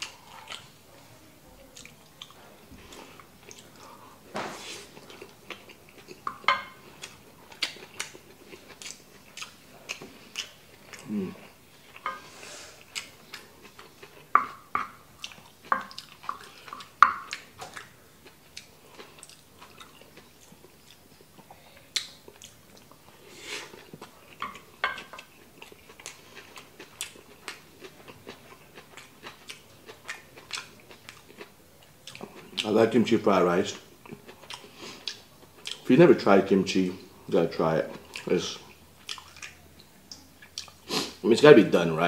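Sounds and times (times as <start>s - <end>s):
person chewing: 0.0s - 0.8s, 1.8s - 32.7s, 33.8s - 35.9s, 37.0s - 41.2s.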